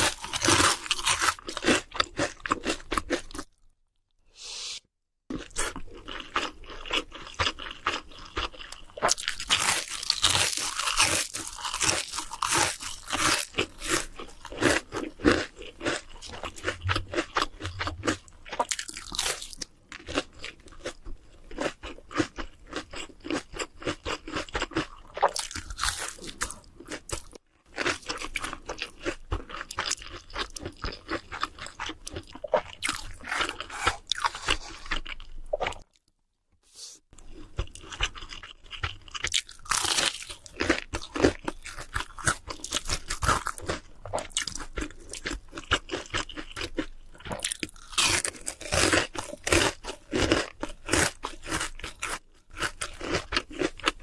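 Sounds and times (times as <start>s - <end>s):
crunching crispy fried food: 0.0s - 3.7s, 5.3s - 36.0s, 36.7s - 54.0s.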